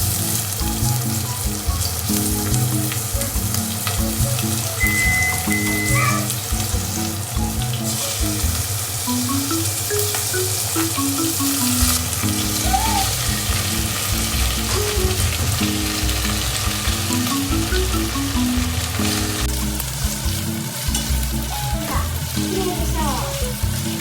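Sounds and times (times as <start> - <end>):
food sizzling in frying pan: 0.0 - 24.0
gentle background music: 0.0 - 24.0.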